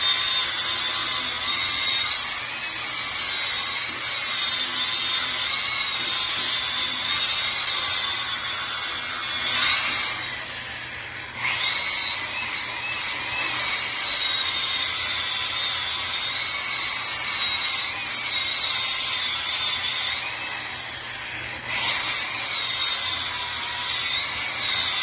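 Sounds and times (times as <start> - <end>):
power tool grinding metal: 0.0 - 25.0.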